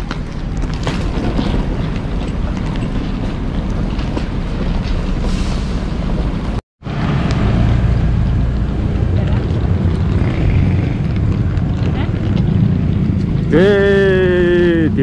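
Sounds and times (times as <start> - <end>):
low rumble: 0.3 - 15.0.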